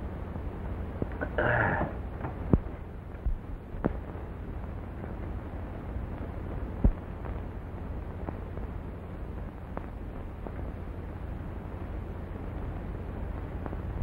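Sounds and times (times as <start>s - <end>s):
film soundtrack hiss and crackle: 0.0s - 14.0s.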